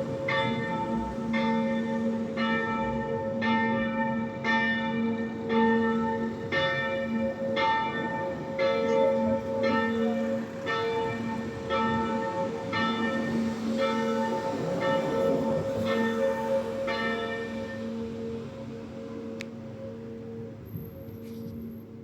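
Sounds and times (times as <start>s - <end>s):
church bells ringing: 0.0s - 20.6s.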